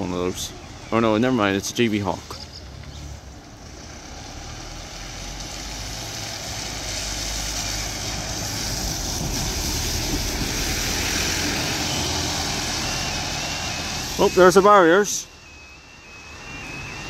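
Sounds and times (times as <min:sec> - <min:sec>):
bus engine passing: 0:00.0 - 0:17.0
tyres hissing on wet road: 0:00.0 - 0:17.0.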